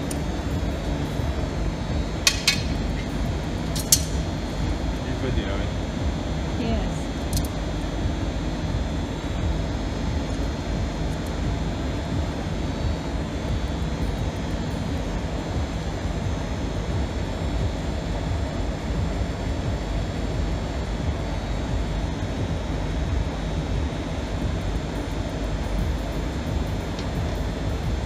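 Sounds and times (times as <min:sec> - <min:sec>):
low rumbling workshop ambience: 0:00.0 - 0:28.0.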